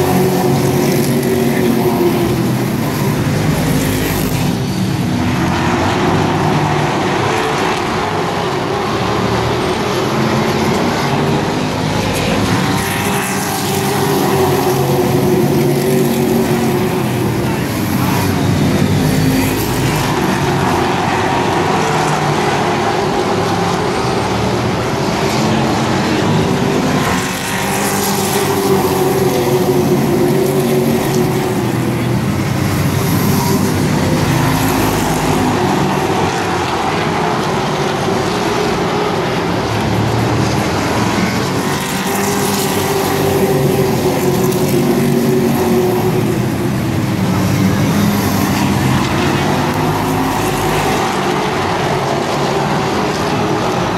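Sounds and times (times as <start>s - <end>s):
race truck engines: 0.0s - 53.9s.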